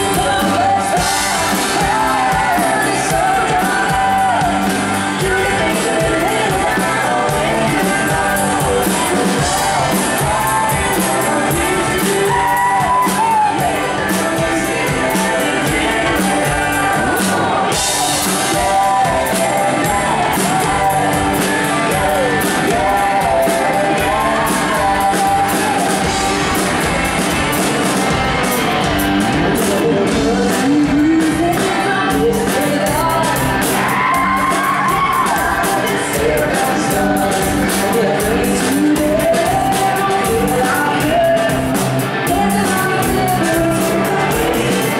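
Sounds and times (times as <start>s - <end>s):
country-rock band playing: 0.0s - 44.9s
voices singing: 0.0s - 44.9s.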